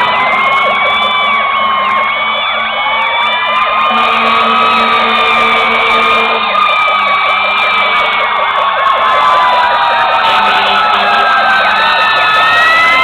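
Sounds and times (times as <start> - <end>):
fire truck sirens: 0.0 - 13.0.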